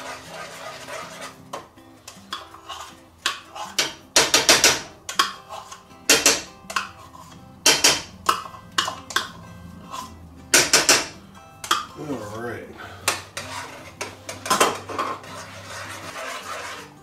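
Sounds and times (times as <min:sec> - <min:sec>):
metal spoon scraping a saucepan: 0:00.0 - 0:17.0.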